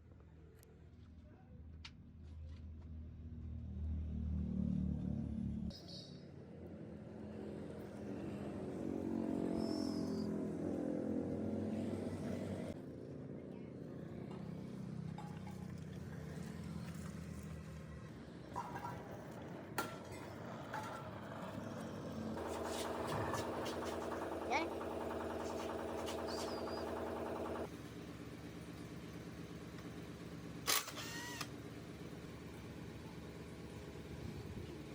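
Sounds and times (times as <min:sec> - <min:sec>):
engine running: 0:06.7 - 0:34.9.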